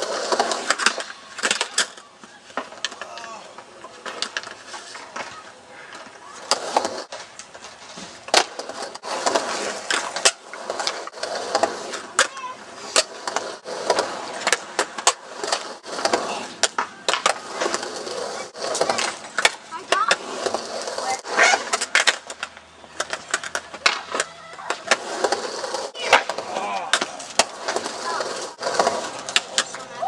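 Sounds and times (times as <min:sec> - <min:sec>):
faint voices: 0:00.0 - 0:30.0
skateboard clacking on concrete: 0:00.0 - 0:30.0
skateboard rolling on concrete: 0:00.0 - 0:30.0.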